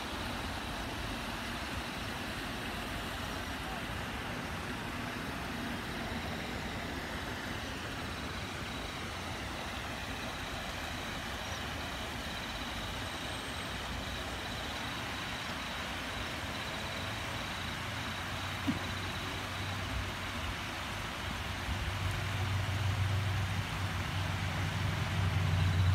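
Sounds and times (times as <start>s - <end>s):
water rushing over weir: 0.0s - 25.9s.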